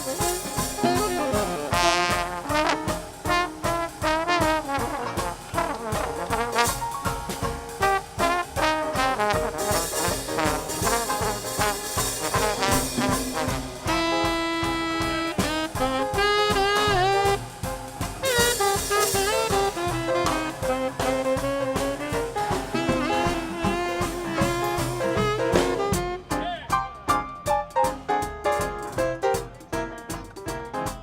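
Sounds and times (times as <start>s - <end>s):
dixieland jazz band playing: 0.0s - 31.0s.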